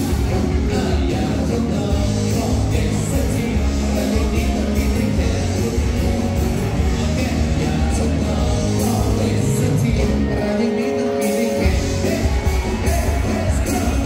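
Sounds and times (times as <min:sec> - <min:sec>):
live band music: 0:00.0 - 0:14.0
man and woman singing: 0:00.2 - 0:14.0.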